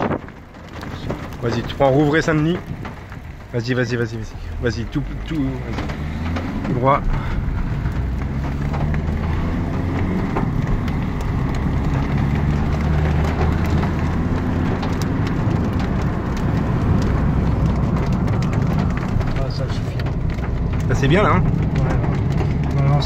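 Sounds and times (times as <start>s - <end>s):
car engine and tyre noise: 0.0s - 23.0s
raindrops ticking on windshield: 0.0s - 23.0s.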